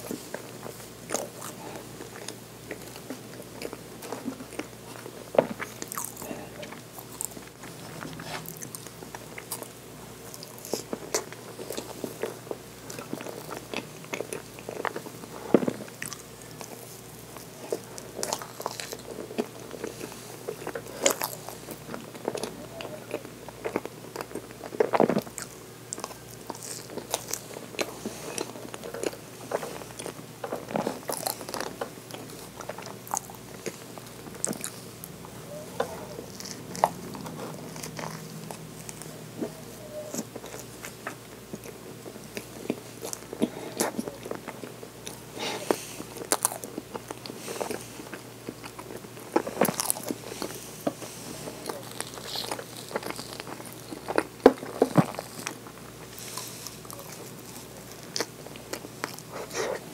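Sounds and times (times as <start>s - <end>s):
chewing with wet mouth clicks: 1.0s - 59.7s.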